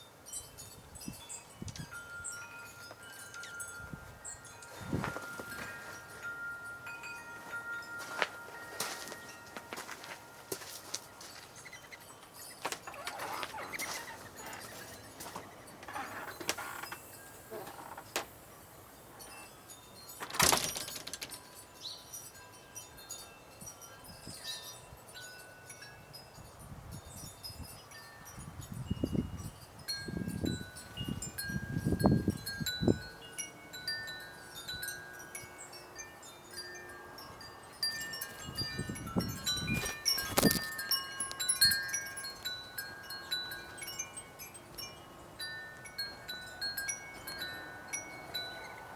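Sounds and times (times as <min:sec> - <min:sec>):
wind chimes ringing: 0:00.0 - 0:48.9.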